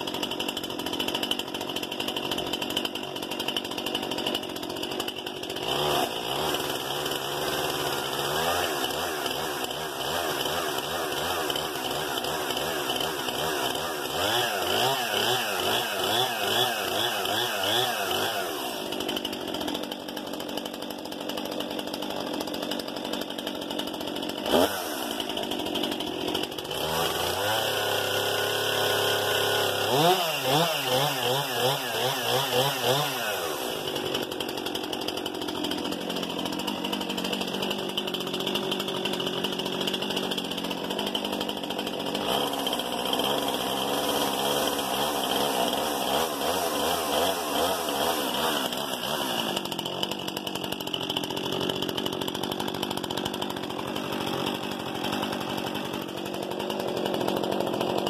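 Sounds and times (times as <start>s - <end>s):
chainsaw engine revving and idling: 0.0s - 58.0s.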